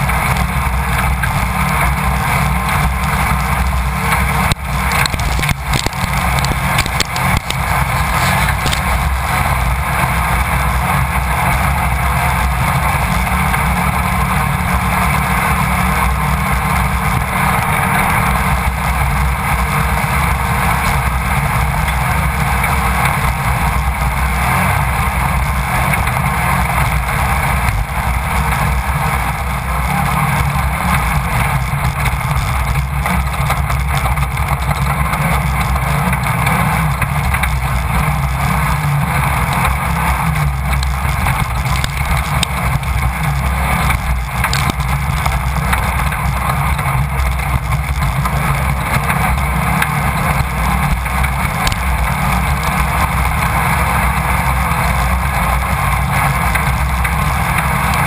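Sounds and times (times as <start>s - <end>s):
buggy engine running hard: 0.0s - 58.0s
car knocking over rough ground: 0.0s - 58.0s.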